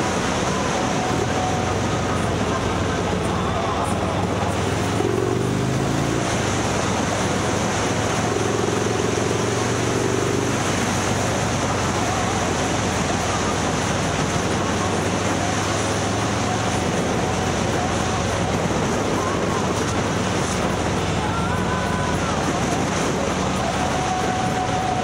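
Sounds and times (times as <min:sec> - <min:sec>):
road noise: 0:00.0 - 0:25.0
steady pitched hum: 0:00.0 - 0:25.0
vehicle engine hum: 0:00.0 - 0:25.0.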